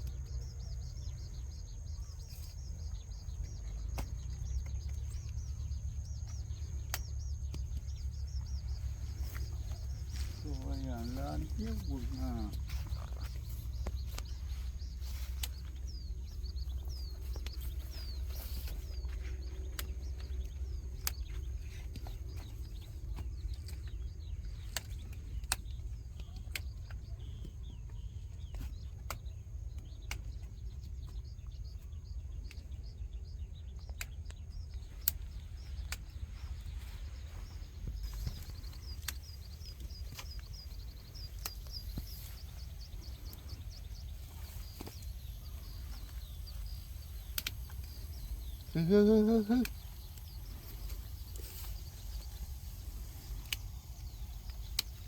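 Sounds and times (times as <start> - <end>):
small birds chirping: 0.0 - 55.0
steady low rumble: 0.0 - 55.0
sharp clicks: 3.2 - 27.6, 33.8 - 55.0.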